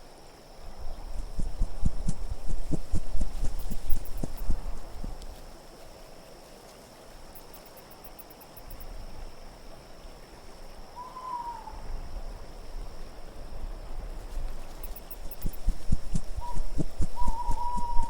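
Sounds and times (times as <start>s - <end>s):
soft winter wind: 0.0s - 18.0s.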